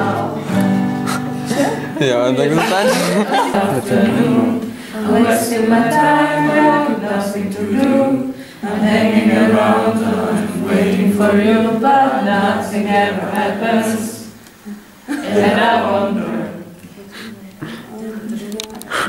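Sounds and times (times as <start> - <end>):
group singing in mixed voices: 0.0 - 16.8.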